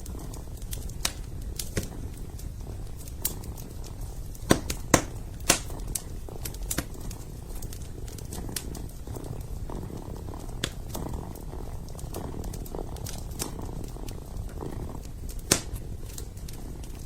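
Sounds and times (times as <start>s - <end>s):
kitten purring: 0.0s - 17.0s
wood fire crackling: 0.0s - 17.0s.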